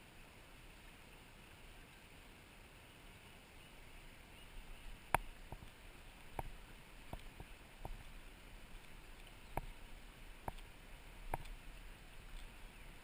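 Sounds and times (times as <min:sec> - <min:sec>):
shallow river water rushing: 0:00.0 - 0:13.0.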